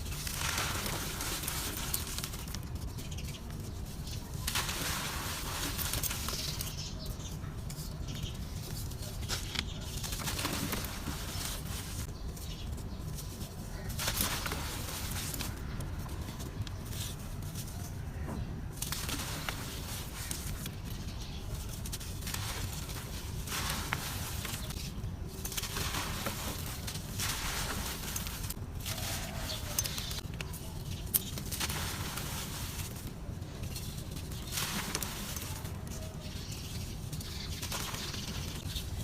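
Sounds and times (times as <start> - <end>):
dry dirt crumbling and crackling: 0.0 - 39.0.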